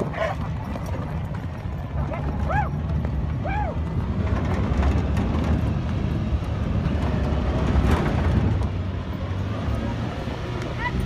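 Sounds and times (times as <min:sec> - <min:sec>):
engine and tyres rumbling on sand: 0:00.0 - 0:11.0.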